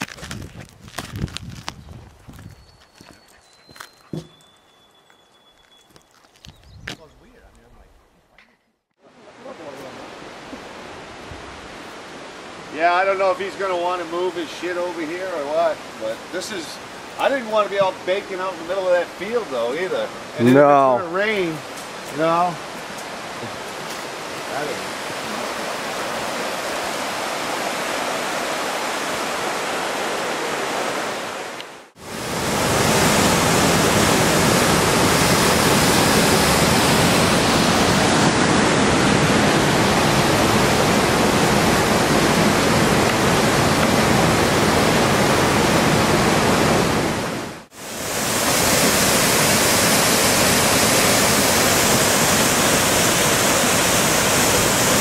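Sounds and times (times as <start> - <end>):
river rushing over rapids: 9.1 - 55.0.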